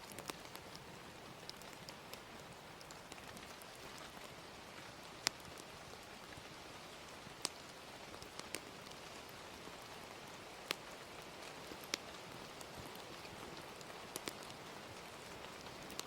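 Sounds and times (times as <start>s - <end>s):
gentle rain hissing: 0.0s - 16.0s
wood fire crackles: 0.0s - 16.0s.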